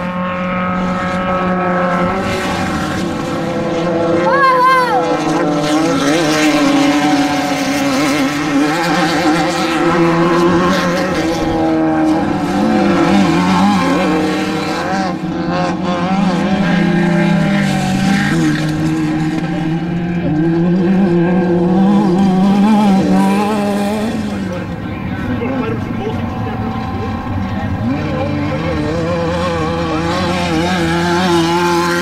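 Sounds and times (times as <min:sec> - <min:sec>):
race vehicle engine droning: 0:00.0 - 0:32.0.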